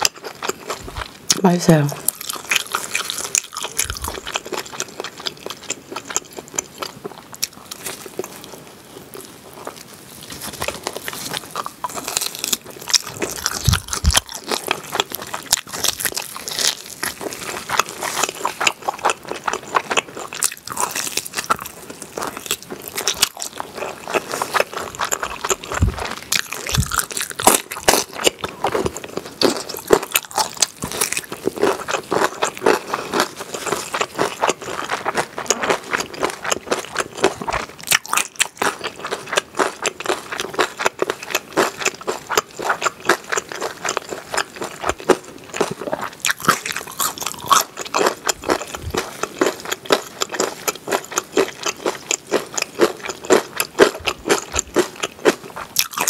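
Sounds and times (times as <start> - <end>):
biting and chewing ribs: 0.0 - 56.0.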